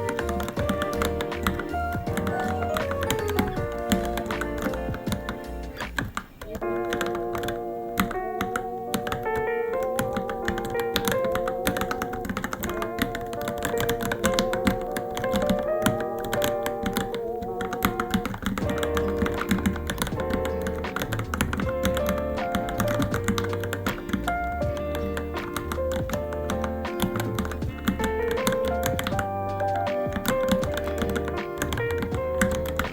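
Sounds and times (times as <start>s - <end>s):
background music: 0.0s - 32.9s
mechanical keyboard typing: 0.0s - 32.9s.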